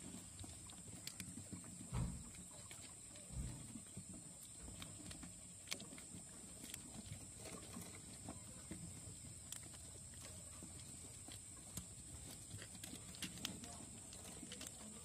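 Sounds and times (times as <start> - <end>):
rats scuffling and gnawing: 0.0 - 15.0.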